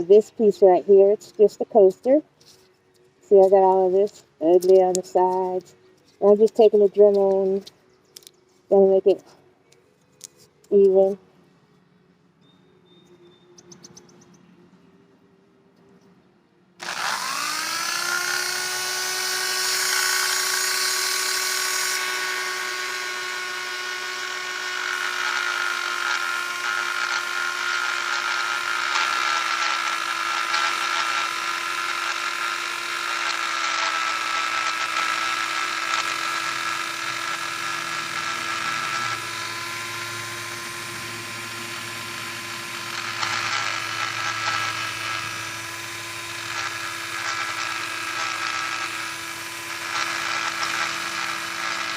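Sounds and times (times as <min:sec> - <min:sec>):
rotary tool whining: 0:01.3 - 0:11.2, 0:16.8 - 0:51.9.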